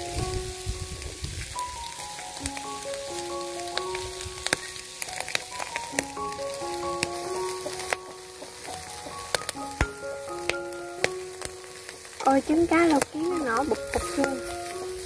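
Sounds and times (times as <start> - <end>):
background music with held notes: 0.0 - 15.0
fish sizzling over charcoal: 0.0 - 15.0.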